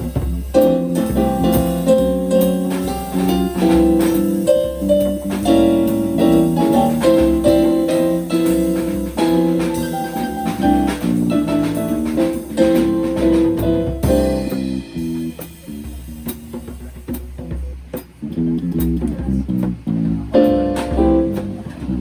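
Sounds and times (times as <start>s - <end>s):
drum kit keeping time: 0.0s - 22.0s
jazz combo playing: 0.0s - 22.0s.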